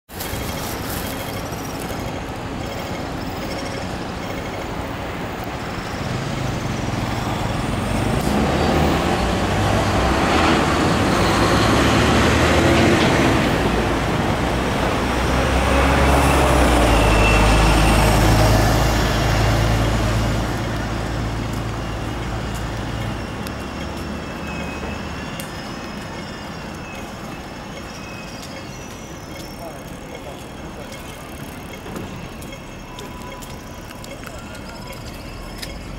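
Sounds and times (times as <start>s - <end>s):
heavy vehicles passing: 0.1s - 35.9s.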